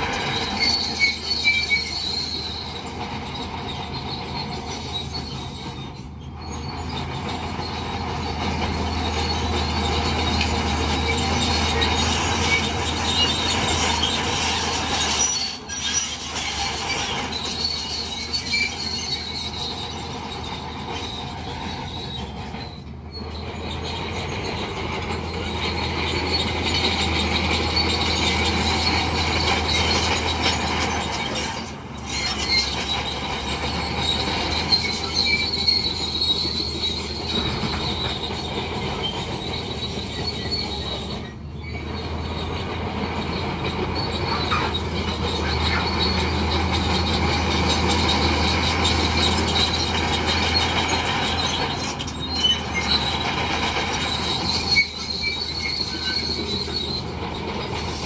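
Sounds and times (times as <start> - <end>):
diesel engine running: 0.0 - 58.0
steel tracks squealing and clanking: 0.0 - 58.0.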